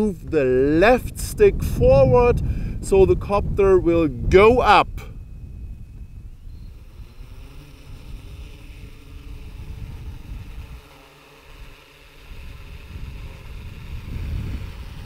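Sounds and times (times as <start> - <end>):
drone motors whining: 2.7 - 15.0.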